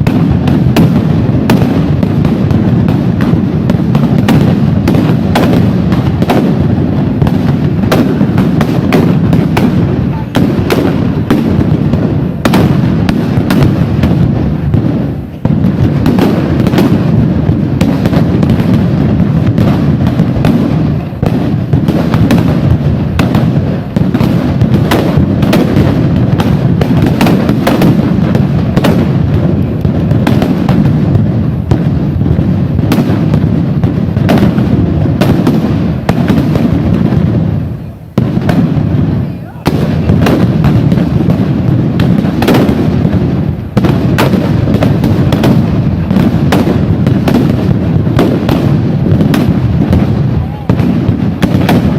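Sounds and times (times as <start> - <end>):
firecrackers crackling: 0.0 - 51.9.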